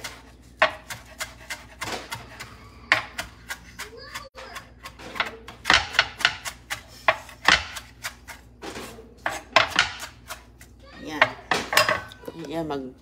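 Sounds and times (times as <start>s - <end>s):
knife chopping on wooden board: 0.0s - 11.7s.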